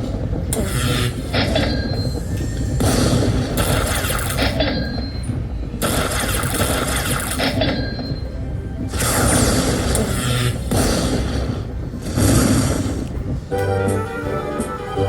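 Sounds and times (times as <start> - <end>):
low hum of gaming room: 0.0 - 15.0.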